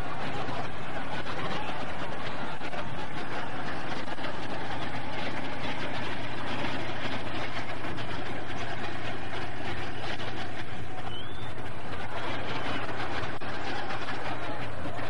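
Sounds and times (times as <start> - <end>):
tank engine rumbling: 0.0 - 15.0.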